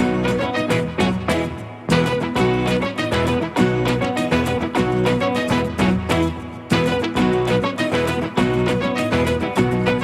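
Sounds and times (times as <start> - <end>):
upbeat music with plucked strings: 0.0 - 10.0.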